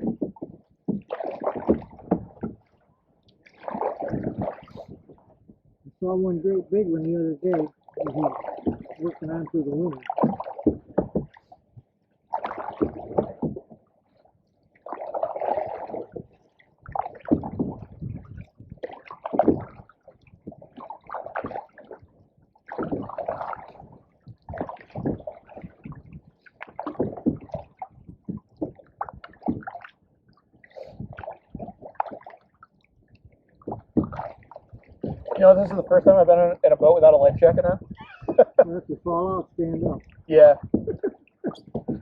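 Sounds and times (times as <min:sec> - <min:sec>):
canoe paddles swishing in water: 0:00.0 - 0:05.6, 0:06.4 - 0:38.6, 0:39.5 - 0:42.0.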